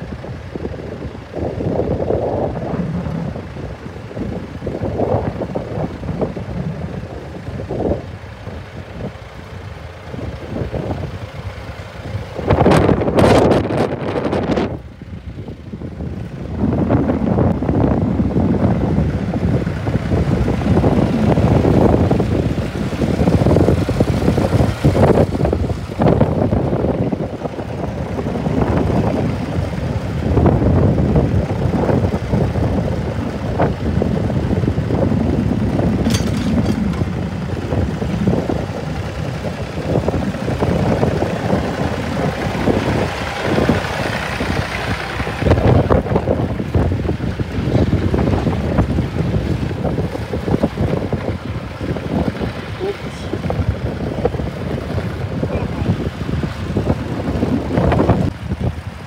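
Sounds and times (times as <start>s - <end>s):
tractor engines under load: 0.0s - 59.0s
wind buffeting microphone: 0.0s - 59.0s.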